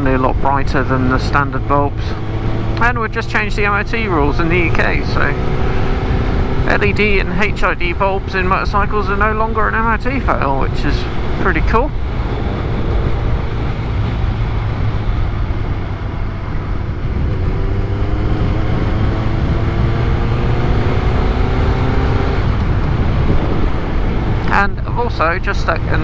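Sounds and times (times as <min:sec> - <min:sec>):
motorcycle engine running: 0:00.0 - 0:26.0
wind rumble on microphone: 0:00.0 - 0:26.0.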